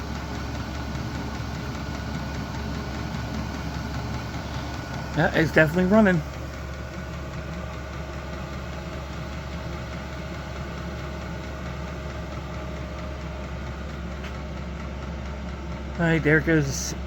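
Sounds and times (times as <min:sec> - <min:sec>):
diesel air heater humming: 0:00.0 - 0:17.0.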